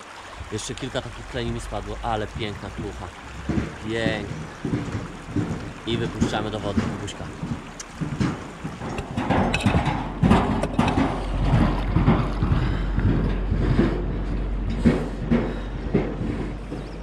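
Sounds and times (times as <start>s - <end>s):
river water splashing: 0.0s - 17.0s
wind on microphone: 0.0s - 17.0s.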